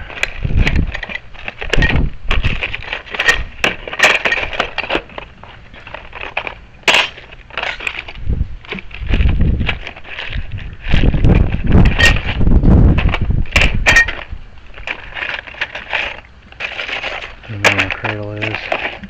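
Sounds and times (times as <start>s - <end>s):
tools clicking and clattering: 0.1s - 12.4s, 13.0s - 19.0s.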